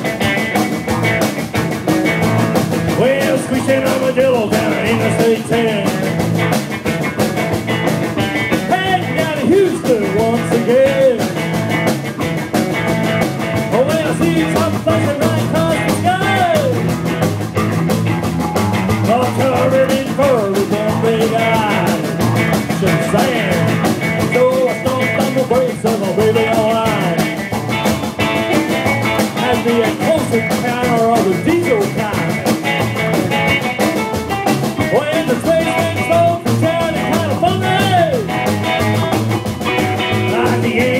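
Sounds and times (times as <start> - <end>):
drum kit: 0.0 - 40.9
electric guitar: 0.0 - 40.9
upright double bass: 0.0 - 40.9.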